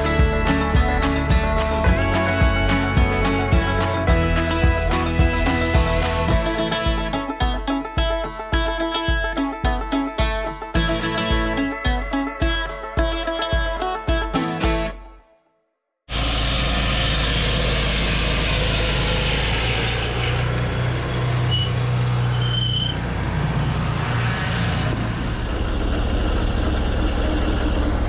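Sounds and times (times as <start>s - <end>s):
sawmill engine running: 0.0s - 14.9s, 16.1s - 28.0s.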